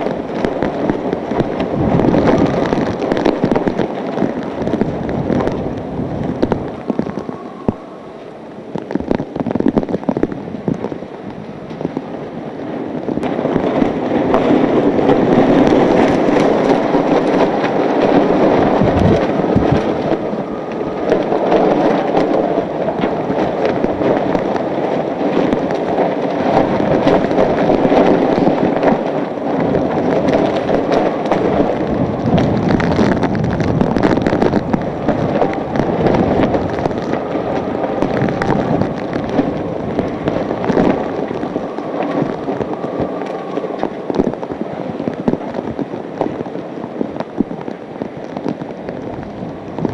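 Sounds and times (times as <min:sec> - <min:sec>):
crackling and flapping: 0:00.0 - 0:49.9
wind blowing hard with rain: 0:00.0 - 0:49.9.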